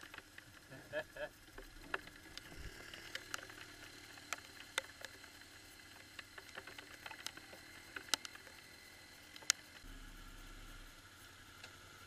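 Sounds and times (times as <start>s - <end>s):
sharp ticks: 0.0s - 9.9s
faint engine hum: 0.0s - 12.0s.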